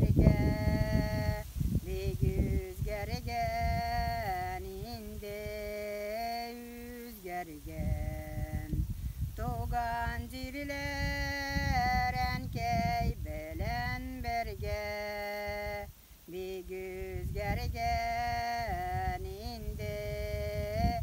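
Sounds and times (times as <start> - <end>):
woman singing folk song: 0.0 - 21.0.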